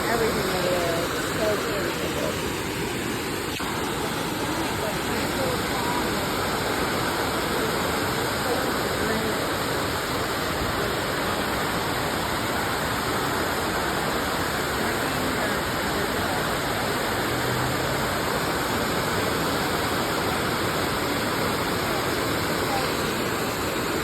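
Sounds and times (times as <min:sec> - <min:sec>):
waterfall pouring and splashing: 0:00.0 - 0:24.0.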